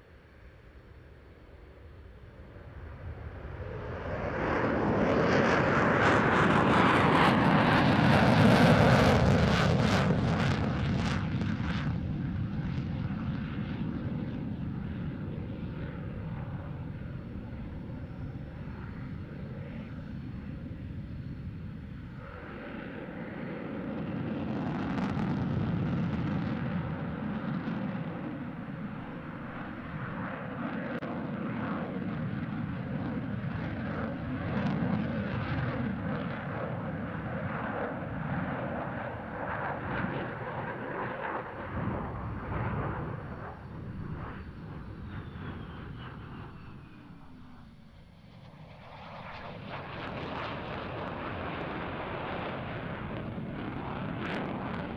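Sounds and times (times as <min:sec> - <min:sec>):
jet fighter rumble overhead: 0:00.0 - 0:54.9.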